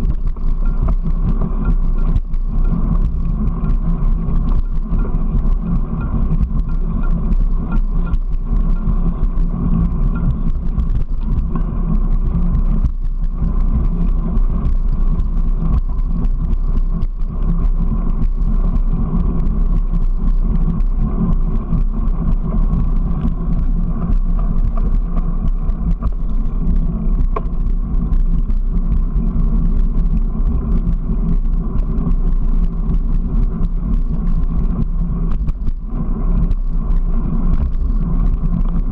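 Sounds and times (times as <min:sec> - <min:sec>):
constant hum: 0:00.0 - 0:38.9
vehicle ride rumble: 0:00.0 - 0:38.9
wind on microphone: 0:00.0 - 0:38.9.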